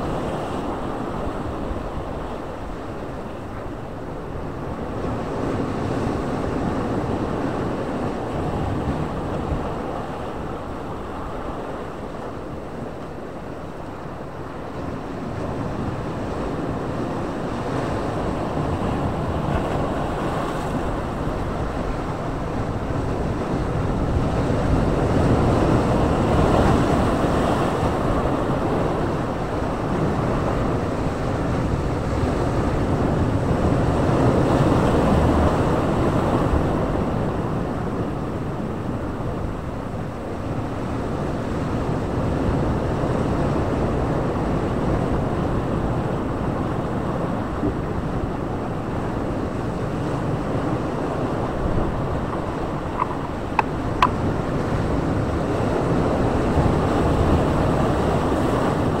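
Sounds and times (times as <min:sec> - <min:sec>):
waves breaking over rocks: 0:00.0 - 0:59.0.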